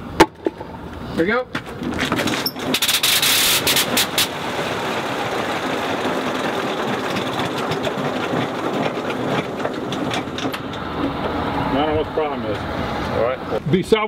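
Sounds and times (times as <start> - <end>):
aircraft engine popping unevenly: 1.6 - 13.2.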